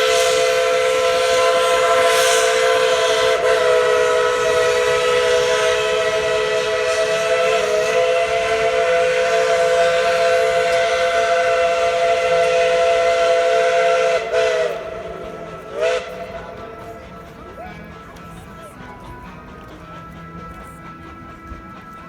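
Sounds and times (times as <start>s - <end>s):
steam hiss: 0.0s - 22.0s
steam locomotive whistle: 0.0s - 22.0s.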